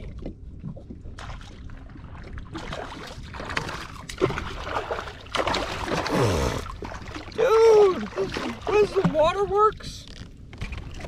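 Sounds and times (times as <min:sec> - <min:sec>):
fish thrashing and splashing: 0:00.0 - 0:09.3.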